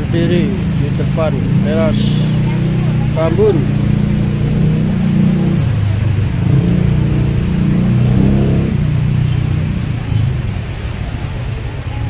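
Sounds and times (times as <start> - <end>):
engine running nearby: 0.0 - 12.0
rain hissing: 0.0 - 12.0.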